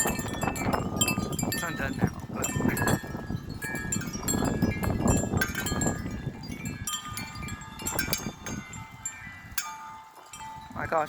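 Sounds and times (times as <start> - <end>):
metal wind chimes ringing: 0.0 - 11.0
wind buffeting microphone: 0.0 - 11.0.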